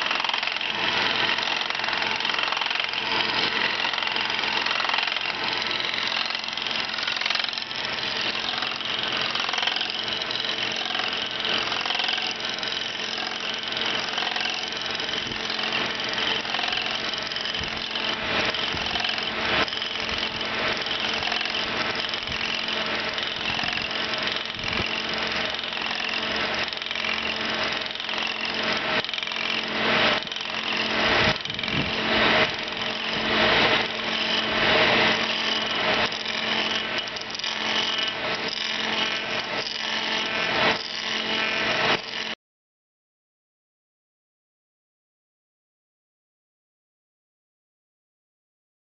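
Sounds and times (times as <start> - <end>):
lathe cutter chattering on wood: 0.0 - 42.4
motor hum: 0.0 - 42.4.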